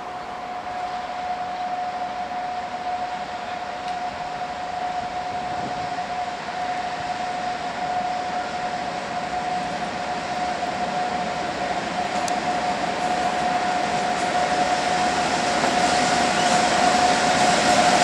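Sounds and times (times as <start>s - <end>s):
electric locomotive whine and hum: 0.0s - 18.0s.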